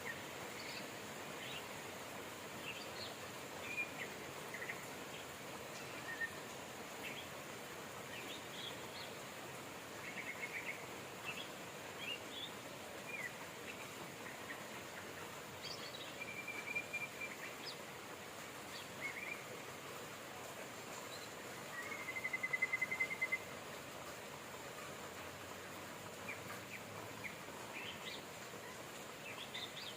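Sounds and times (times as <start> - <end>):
rain hissing: 0.0 - 29.9
songbirds chirping and trilling: 0.0 - 29.9.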